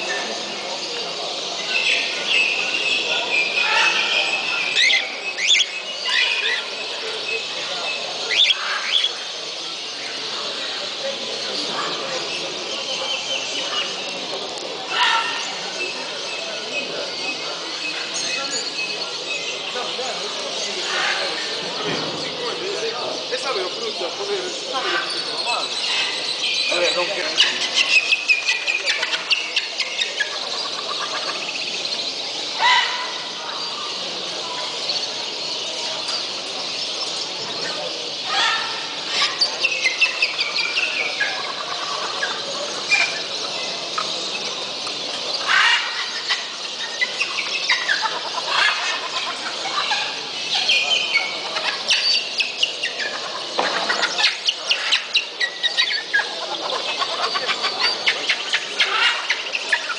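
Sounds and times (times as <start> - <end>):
caged birds chirping and whistling: 0.0 - 59.9.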